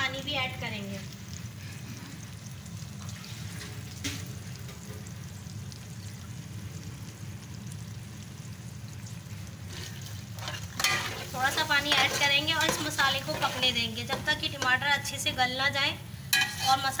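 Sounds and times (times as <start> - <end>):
oil sizzling in a pot: 0.0 - 17.0.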